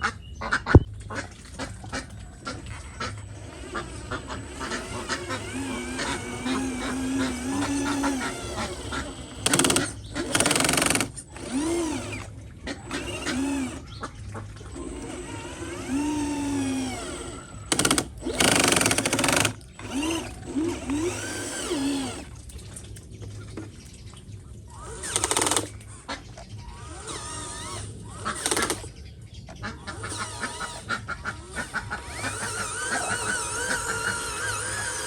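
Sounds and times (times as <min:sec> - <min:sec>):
small electric motors whining: 0:02.6 - 0:22.4, 0:24.7 - 0:26.0, 0:26.6 - 0:29.0, 0:29.9 - 0:35.0.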